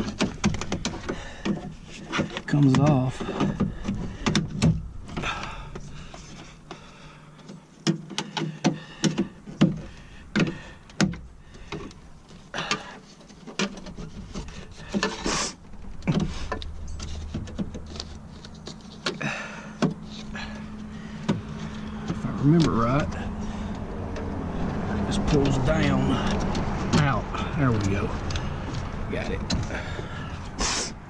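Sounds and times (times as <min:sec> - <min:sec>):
scraping rattle: 0:00.0 - 0:30.6
low steady hum: 0:00.0 - 0:31.0.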